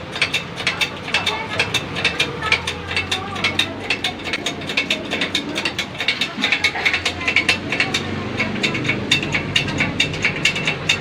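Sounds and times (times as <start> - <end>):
pressing machine clicking: 0.0 - 11.0.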